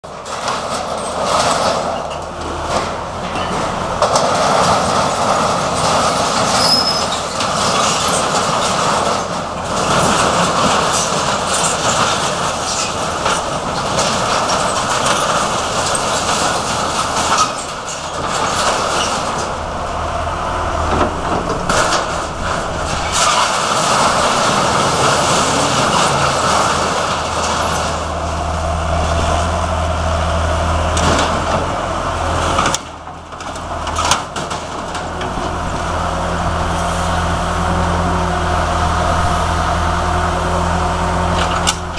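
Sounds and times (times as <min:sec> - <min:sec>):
diesel engine rumble: 0:00.0 - 0:41.9
sheet metal scraping and crunching: 0:00.1 - 0:41.9.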